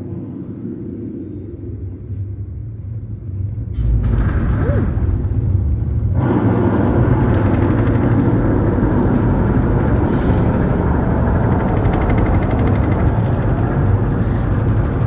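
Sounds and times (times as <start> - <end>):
deep rumble under hissing rush: 0.0 - 15.0.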